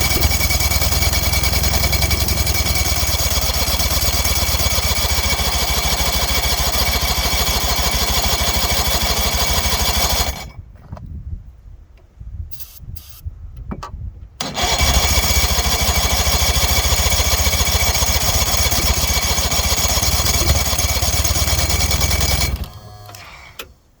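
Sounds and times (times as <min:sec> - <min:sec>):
outboard motor turning over: 0:00.0 - 0:10.6, 0:14.4 - 0:23.8.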